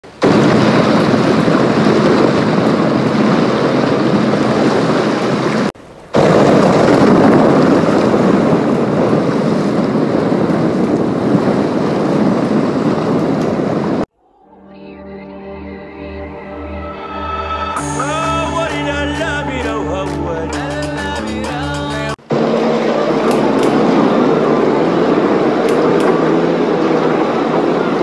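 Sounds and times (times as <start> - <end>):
ocean surf rushing: 0.0 - 28.0
wind: 0.0 - 28.0.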